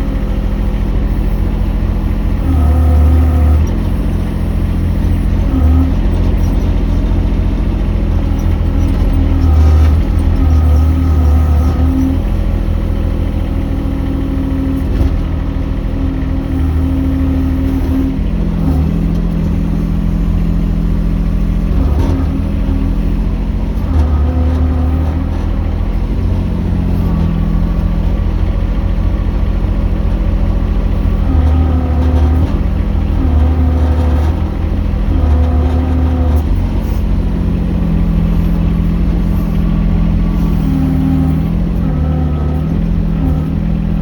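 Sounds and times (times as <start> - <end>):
mini excavator engine running: 0.0 - 44.0.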